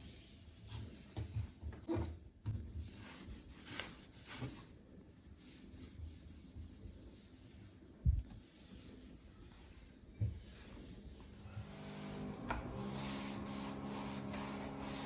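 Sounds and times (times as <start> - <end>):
rubbing and wiping strokes: 0.0 - 1.6, 2.5 - 15.0.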